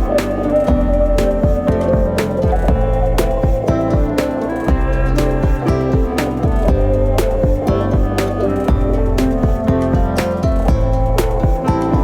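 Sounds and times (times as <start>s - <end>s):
low kick drum: 0.0s - 12.0s
sustained melodic notes: 0.0s - 12.0s.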